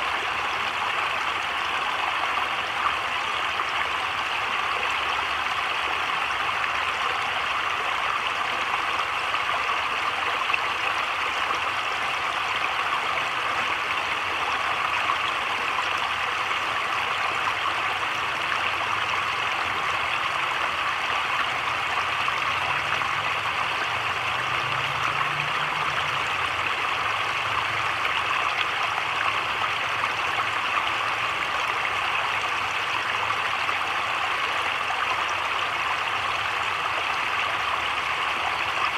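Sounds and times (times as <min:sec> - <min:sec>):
heavy rain on creek and foliage: 0:00.0 - 0:38.9.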